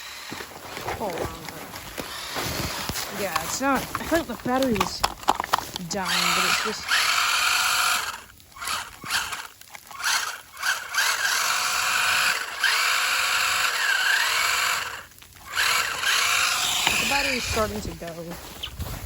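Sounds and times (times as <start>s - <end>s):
electric motor whining: 0.0s - 18.2s.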